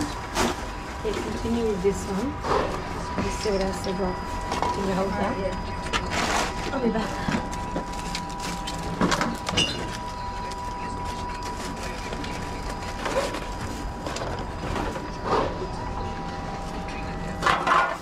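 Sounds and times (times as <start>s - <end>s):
vending machine humming and rumbling: 0.0s - 18.0s.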